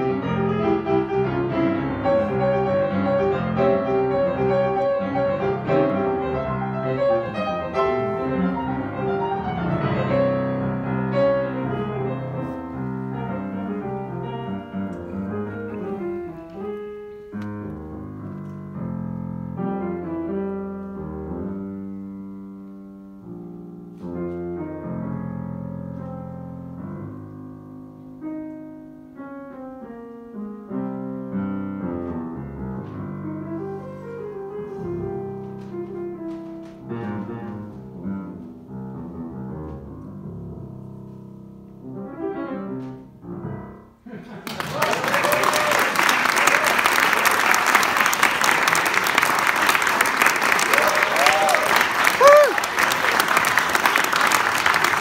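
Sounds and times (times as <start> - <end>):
jazz piano improvisation: 0.0 - 44.1.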